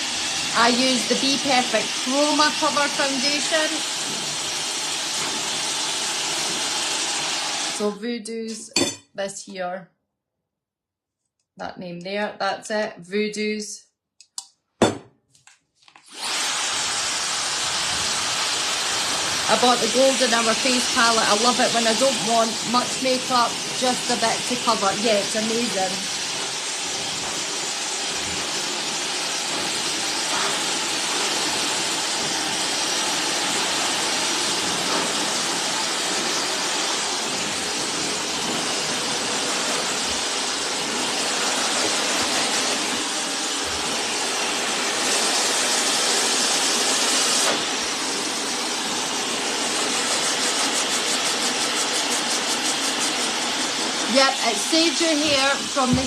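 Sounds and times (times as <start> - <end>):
hair dryer blowing: 0.0 - 8.0, 16.0 - 56.0.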